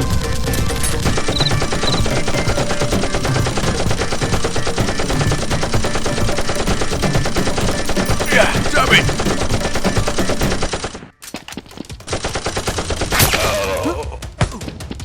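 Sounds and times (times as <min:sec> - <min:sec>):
rapid automatic gunfire: 0:00.0 - 0:11.2, 0:11.8 - 0:13.4.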